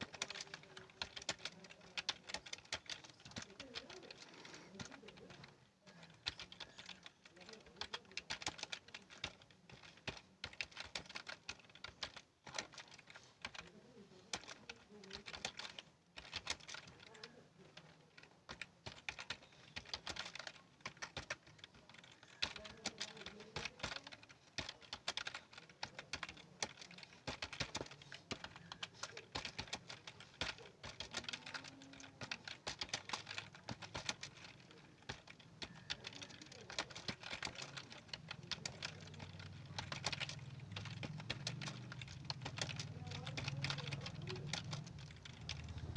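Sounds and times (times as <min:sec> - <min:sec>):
fast typing on a keyboard: 0:00.0 - 0:45.9.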